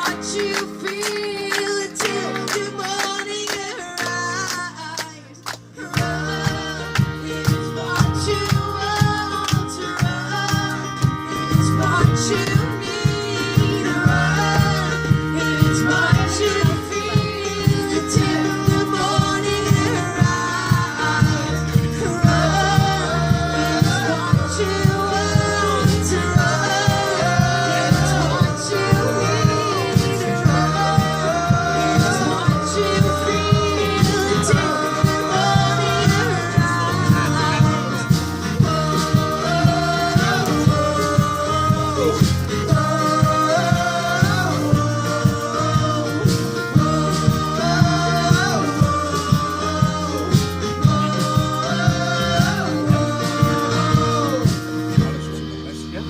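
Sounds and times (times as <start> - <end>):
song with steady beat: 0.0 - 56.0.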